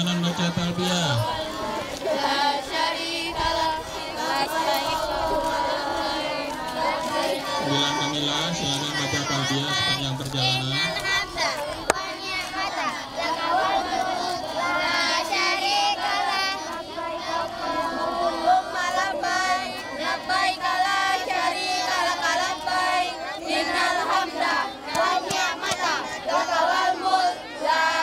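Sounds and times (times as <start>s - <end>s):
children chanting in unison: 0.0s - 28.0s.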